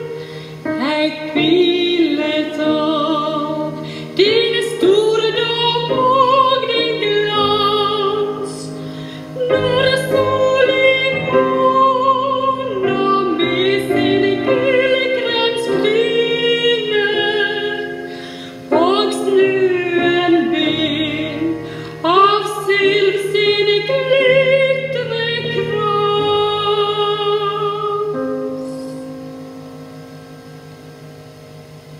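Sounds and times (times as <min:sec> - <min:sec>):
woman singing classically: 0:00.0 - 0:29.2
piano accompaniment: 0:00.0 - 0:31.9.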